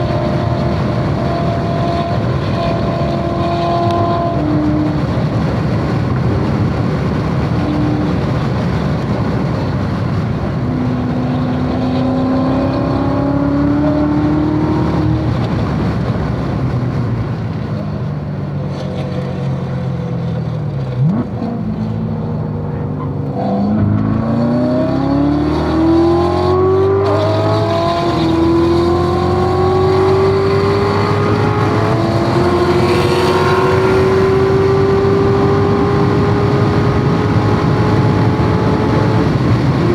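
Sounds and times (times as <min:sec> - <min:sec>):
car engine at full throttle: 0:00.0 - 0:39.9
wind and tyre noise: 0:00.0 - 0:39.9.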